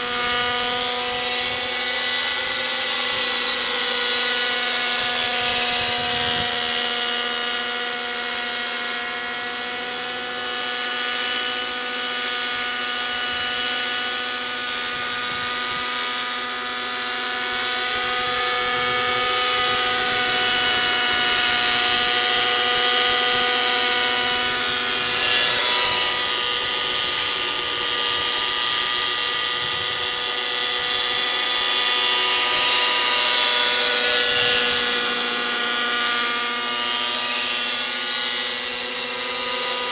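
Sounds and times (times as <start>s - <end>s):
rc helicopter engine whine: 0.0s - 39.9s.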